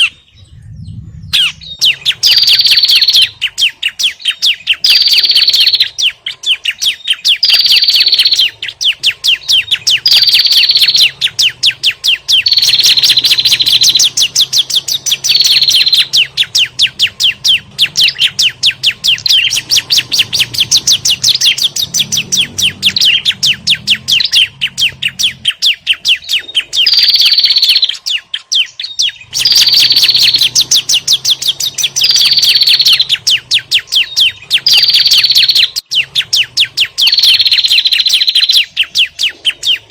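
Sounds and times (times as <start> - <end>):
bird chattering chip notes: 0.0 - 0.2, 1.3 - 39.9.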